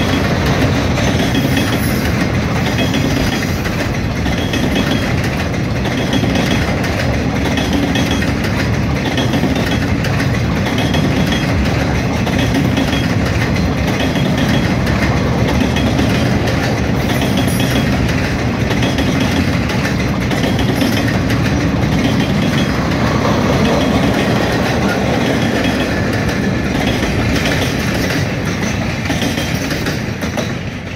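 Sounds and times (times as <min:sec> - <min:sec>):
steel wheels rolling on rails: 0:00.0 - 0:30.9
wheels clacking over rail joints: 0:00.0 - 0:30.9.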